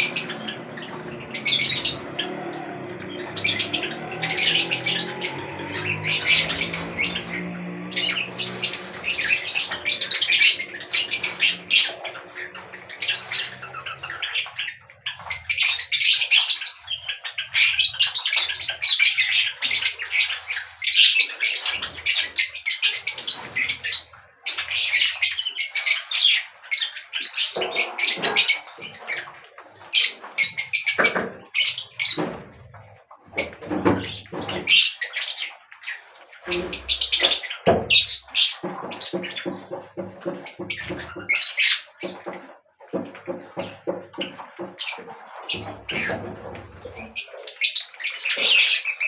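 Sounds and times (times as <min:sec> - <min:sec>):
birds chirping and squawking: 0:00.0 - 0:49.0.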